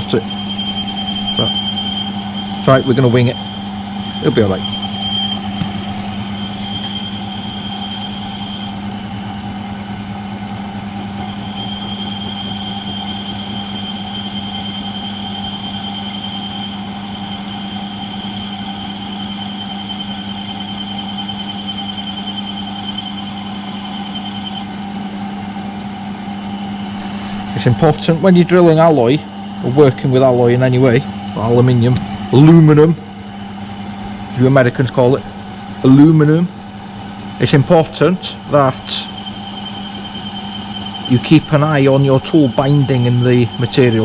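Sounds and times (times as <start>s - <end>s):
drill bit cutting into metal: 0.0s - 44.0s
milling machine motor humming: 0.0s - 44.0s
thin high whine: 0.0s - 44.0s.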